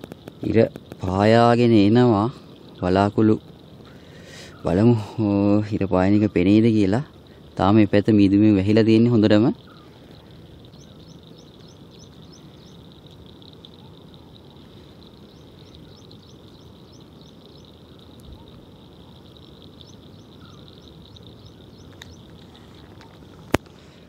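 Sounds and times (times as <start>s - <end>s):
faint low background hiss: 0.0s - 24.0s.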